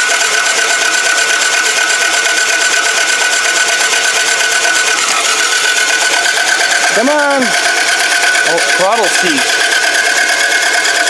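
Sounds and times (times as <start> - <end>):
engine cranking with starter whine: 0.0 - 11.0.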